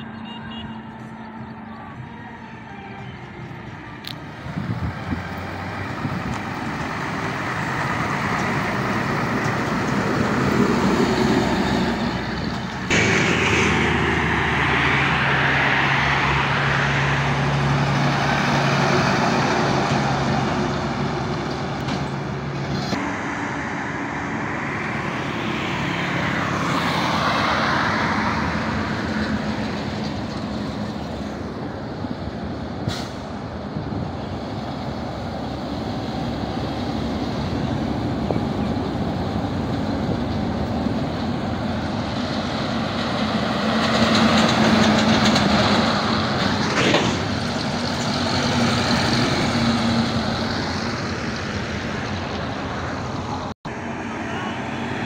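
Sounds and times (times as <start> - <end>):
heavy trucks driving past: 0.0 - 55.0.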